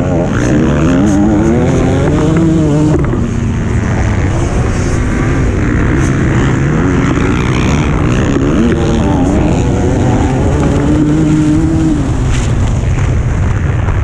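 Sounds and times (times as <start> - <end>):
motocross bike engine revving: 0.0 - 13.7.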